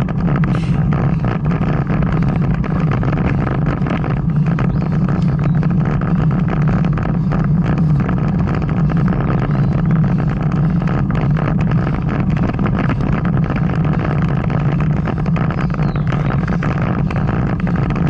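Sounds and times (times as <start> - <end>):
small clicks and rattles: 0.0 - 18.0
wind and road rumble: 0.0 - 18.0.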